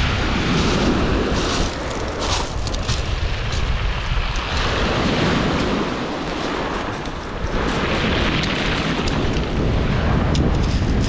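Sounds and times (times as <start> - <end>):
waves breaking on pebble beach: 0.0 - 11.0
wind buffeting microphone: 0.0 - 11.0.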